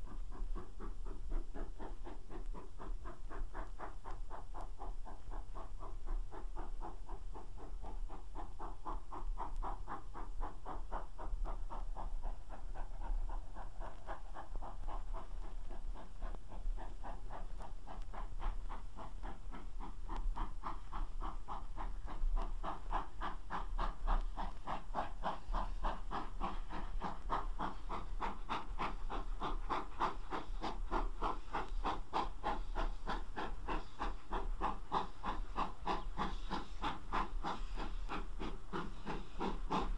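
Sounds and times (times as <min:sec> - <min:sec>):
steam locomotive exhaust beat: 0:00.0 - 0:39.9.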